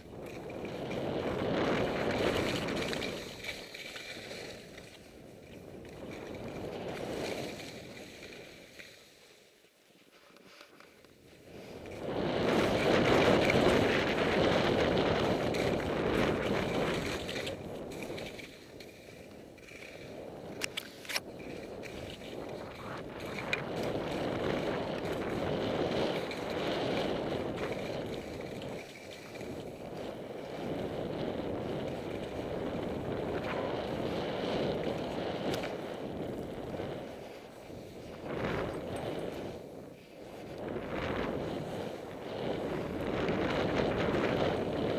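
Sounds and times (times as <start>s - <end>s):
wind rushing over microphone: 0.0s - 3.7s, 4.4s - 8.4s, 11.3s - 44.9s
skis scraping through snow: 0.0s - 44.9s.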